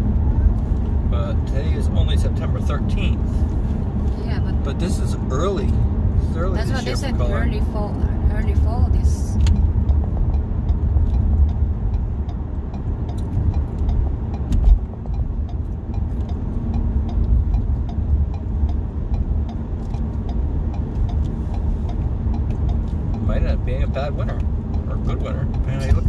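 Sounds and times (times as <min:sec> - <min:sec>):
car cabin road rumble: 0:00.0 - 0:26.0.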